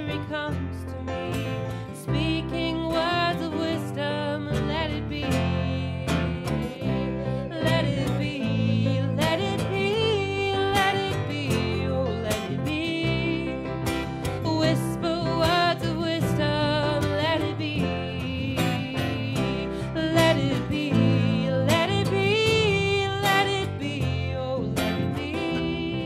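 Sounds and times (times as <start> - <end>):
person singing: 0.0 - 26.0
strummed acoustic guitar: 0.0 - 26.0.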